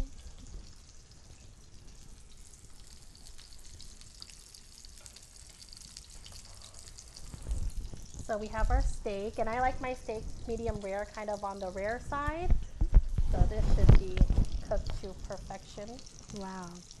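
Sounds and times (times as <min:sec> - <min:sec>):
steak sizzling in a pan: 0:00.0 - 0:17.0.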